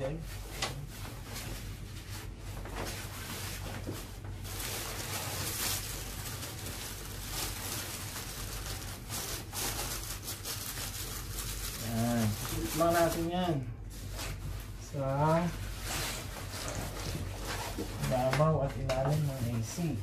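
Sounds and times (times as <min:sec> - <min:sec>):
low steady hum: 0:00.0 - 0:20.0
plastic bag rustling: 0:00.0 - 0:20.0.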